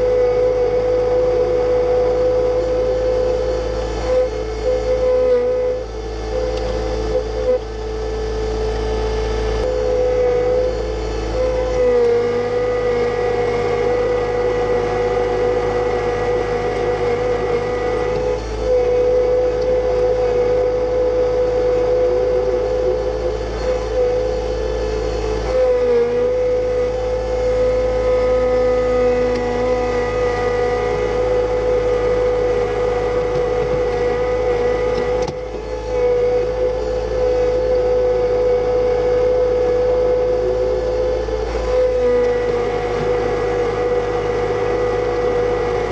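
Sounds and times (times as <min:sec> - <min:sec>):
diesel tractor engine running: 0:00.0 - 0:45.9
steady whine: 0:00.0 - 0:45.9.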